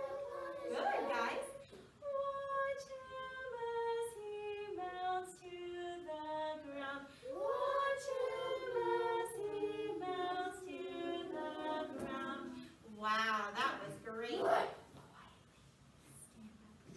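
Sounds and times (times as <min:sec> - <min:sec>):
woman and children singing: 0:00.0 - 0:14.7.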